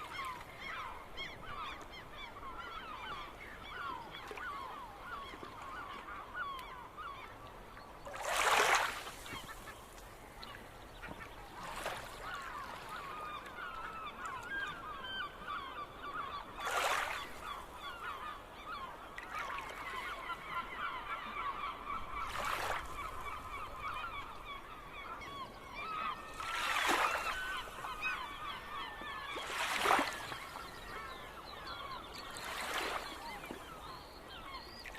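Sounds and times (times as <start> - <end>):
gulls calling: 0.0 - 7.4, 8.1 - 34.9.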